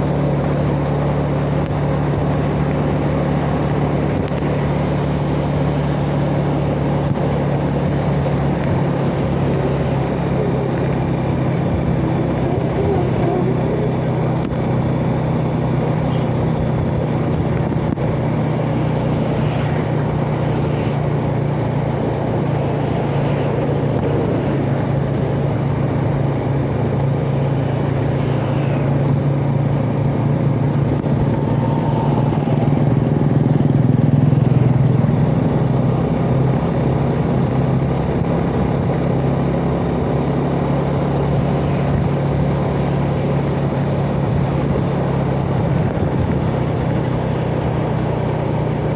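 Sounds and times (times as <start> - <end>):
motorcycle engine running: 0.0 - 48.9
road and wind noise: 0.0 - 48.9.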